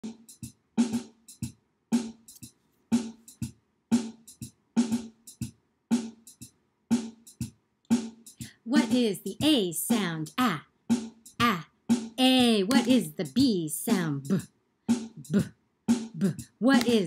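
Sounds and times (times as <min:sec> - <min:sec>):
hi-hat ticks: 0:00.1 - 0:01.6, 0:02.2 - 0:03.6, 0:04.2 - 0:10.4, 0:12.3 - 0:17.0.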